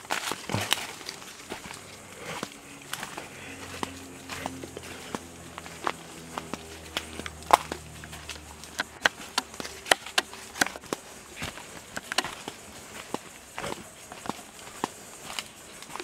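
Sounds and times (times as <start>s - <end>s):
dry twigs snapping: 0.0s - 16.0s
footsteps crunching dry leaves: 0.0s - 16.0s.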